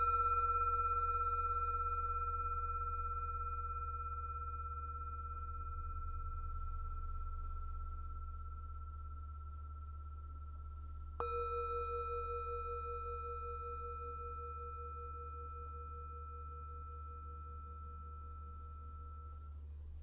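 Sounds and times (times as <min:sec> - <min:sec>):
singing bowl ringing: 0:00.0 - 0:19.8.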